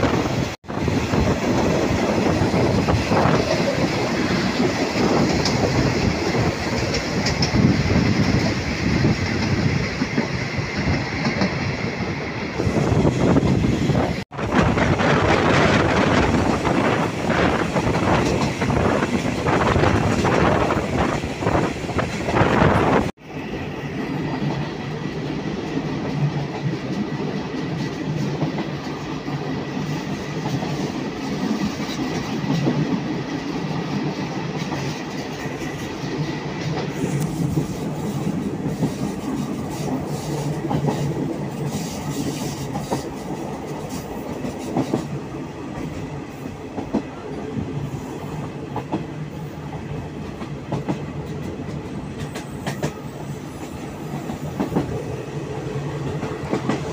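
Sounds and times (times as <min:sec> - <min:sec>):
rail joint clicks: 0:00.0 - 0:56.9
train wheels rumbling on rail: 0:00.0 - 0:56.9.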